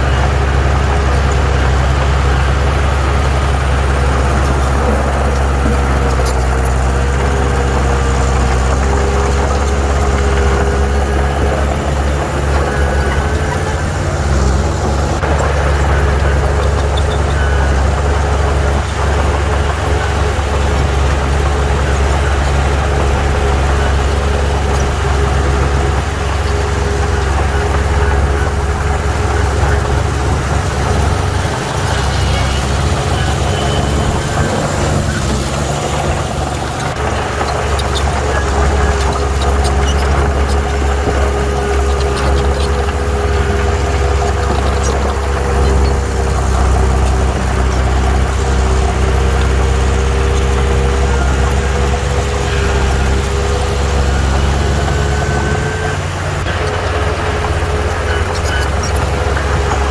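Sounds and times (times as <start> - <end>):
faint drifting tones: 0.0 - 59.9
heavy diesel engines droning: 0.0 - 59.9.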